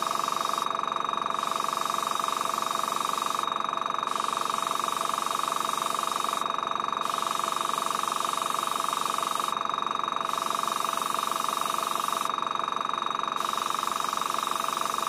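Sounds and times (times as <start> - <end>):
airbrush compressor pulsing hum: 0.0 - 12.6, 13.4 - 15.0.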